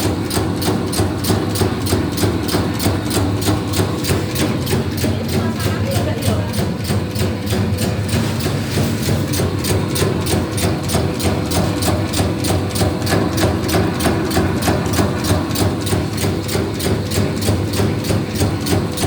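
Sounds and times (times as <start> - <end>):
machine motor hum: 0.0 - 19.0.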